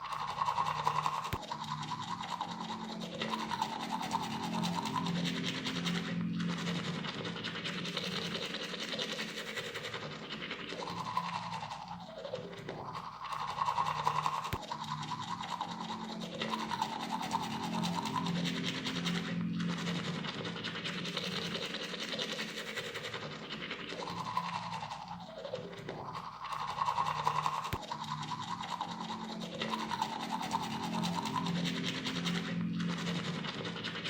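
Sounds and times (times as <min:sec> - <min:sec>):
toothbrush scrubbing teeth: 0:00.1 - 0:34.0.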